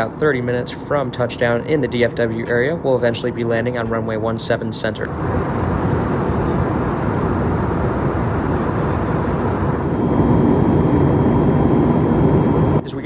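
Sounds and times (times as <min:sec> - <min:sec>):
airplane cabin airflow and engine drone: 0:00.0 - 0:13.0.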